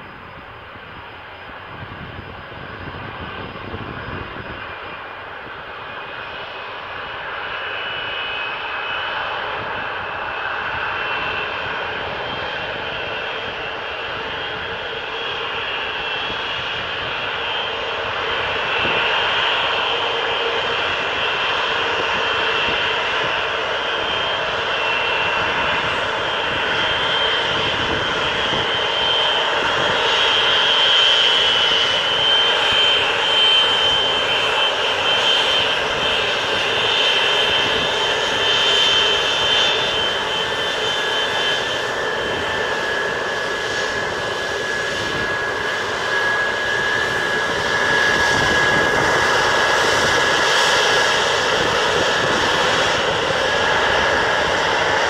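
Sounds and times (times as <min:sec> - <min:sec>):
jet engine roar with whines: 0:00.0 - 0:55.0.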